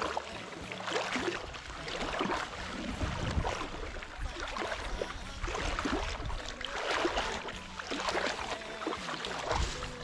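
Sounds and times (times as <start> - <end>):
wading through pond water: 0.0 - 10.0.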